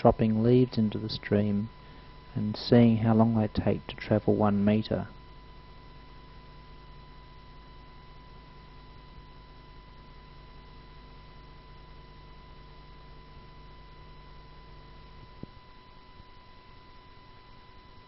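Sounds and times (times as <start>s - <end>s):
faint electrical hum and hiss: 0.0s - 18.0s
thin high whine: 0.0s - 18.0s.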